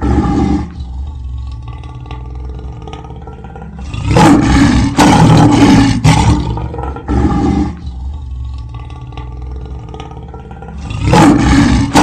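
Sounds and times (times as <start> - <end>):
lion roaring: 0.0 - 12.0.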